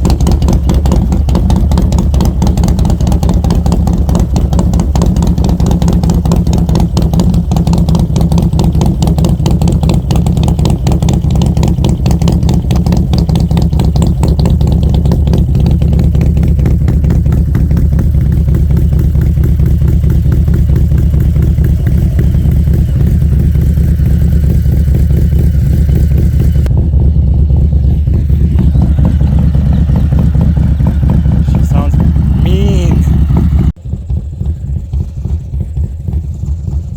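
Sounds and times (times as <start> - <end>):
motorcycle exhaust pulsing: 0.0 - 36.9.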